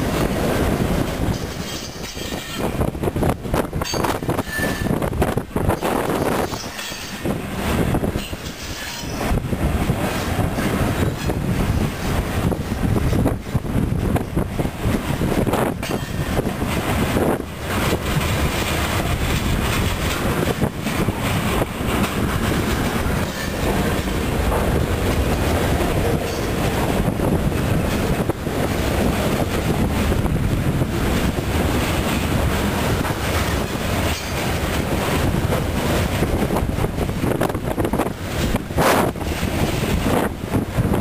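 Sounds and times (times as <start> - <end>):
rail clacks: 0.0 - 41.0
train wheels rumbling on rails: 0.0 - 41.0.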